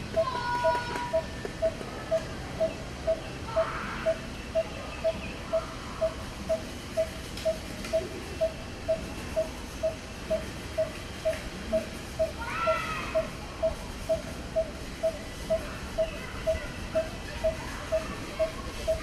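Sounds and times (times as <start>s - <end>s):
monkeys squeaking: 0.2s - 19.0s.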